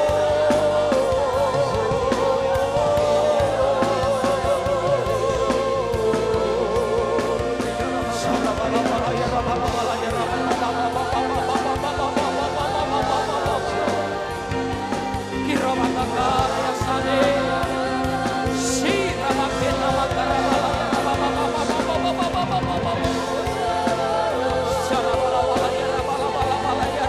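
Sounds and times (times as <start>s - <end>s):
voices singing: 0.0s - 27.0s
worship band playing: 0.0s - 27.0s.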